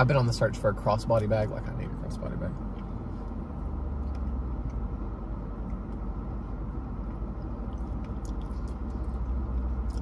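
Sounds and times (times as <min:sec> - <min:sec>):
car cabin engine rumble: 0:00.0 - 0:10.0.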